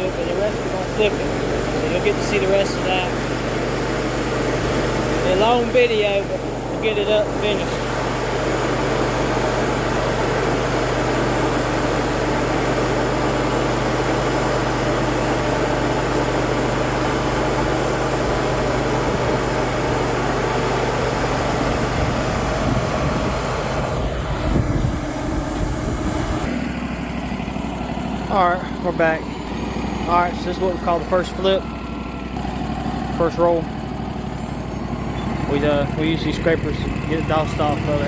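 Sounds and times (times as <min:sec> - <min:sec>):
band sawmill cutting log: 0:00.0 - 0:38.0.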